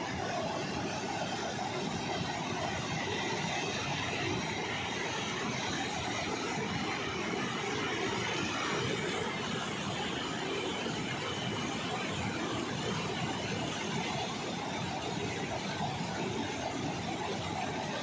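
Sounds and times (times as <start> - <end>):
white water rushing over rocks: 0.0 - 18.0.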